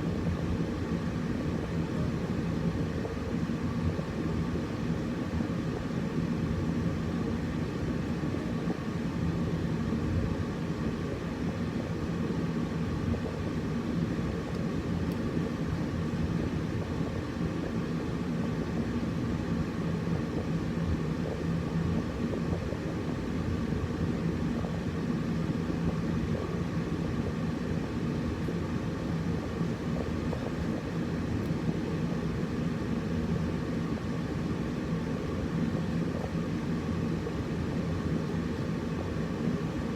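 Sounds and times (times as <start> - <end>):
air conditioner whooshing drone: 0.0 - 39.9
faint constant hum: 0.0 - 39.9.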